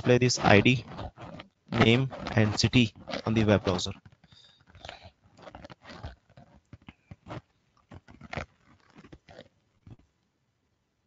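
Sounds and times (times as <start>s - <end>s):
faint irregular clicks and knocks: 0.4s - 10.2s.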